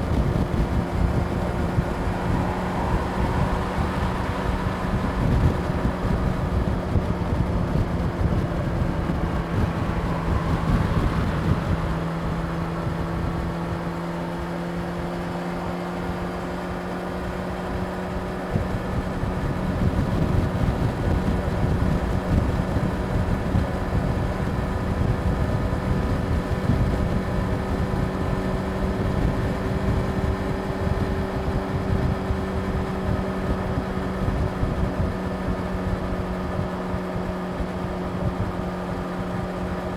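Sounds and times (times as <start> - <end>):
motorcycle engine cruising: 0.0 - 39.9
wind rumbling on microphone: 0.0 - 39.9.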